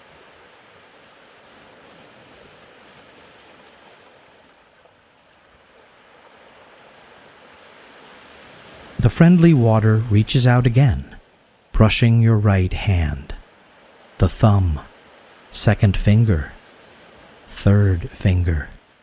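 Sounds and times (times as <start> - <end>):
waves washing: 0.0 - 19.0.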